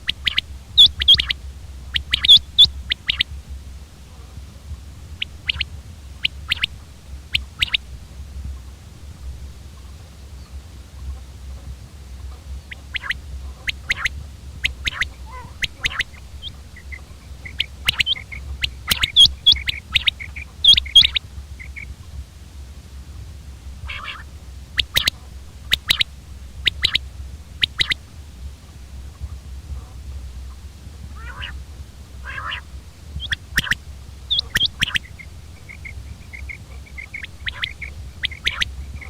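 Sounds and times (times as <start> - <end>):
quail calling: 0.0 - 3.4, 4.0 - 22.1, 23.7 - 39.0
low hum: 0.0 - 39.0.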